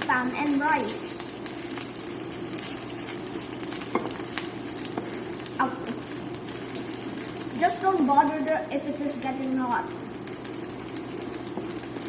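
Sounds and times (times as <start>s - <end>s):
utensil stirring food: 0.0s - 8.3s, 9.9s - 12.0s
food sizzling in a pan: 0.0s - 12.0s.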